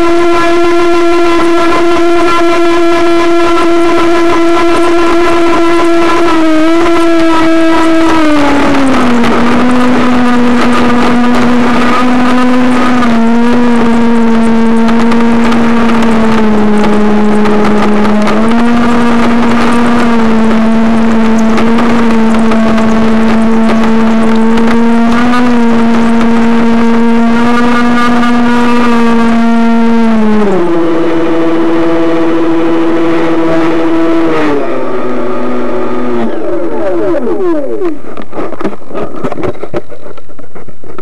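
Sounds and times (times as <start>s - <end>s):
model aircraft motor whining: 0.0s - 41.0s.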